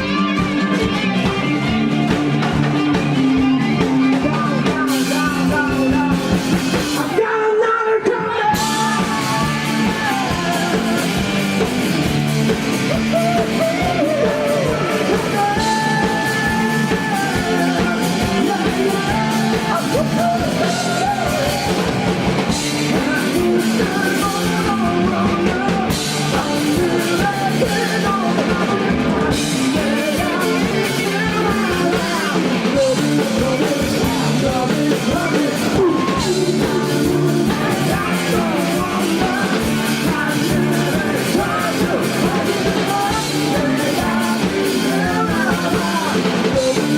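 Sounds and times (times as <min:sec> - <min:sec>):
person singing: 0:00.0 - 0:46.9
rock band playing live: 0:00.0 - 0:46.9.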